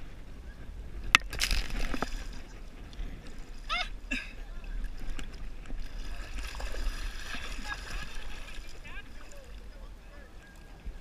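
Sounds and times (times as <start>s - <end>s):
water rumbling and lapping: 0.0s - 11.0s.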